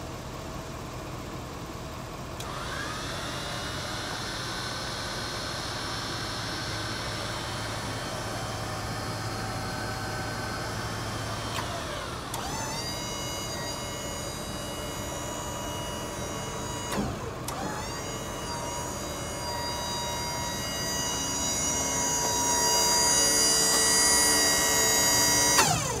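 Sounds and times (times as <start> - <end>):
hydraulic crane motor whining: 2.3 - 26.0.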